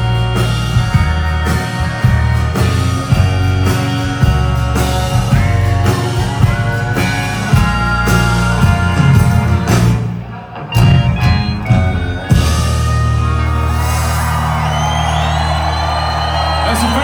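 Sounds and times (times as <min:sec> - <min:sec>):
country-rock band playing: 0:00.0 - 0:17.0.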